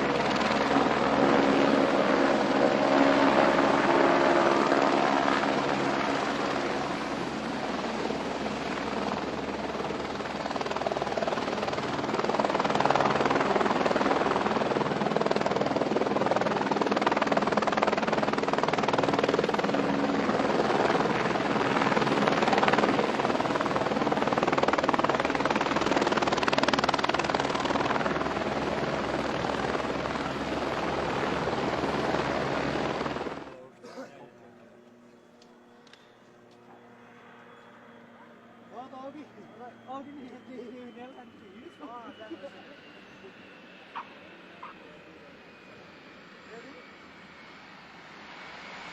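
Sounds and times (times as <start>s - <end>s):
aircraft engine roar: 0.0s - 48.9s.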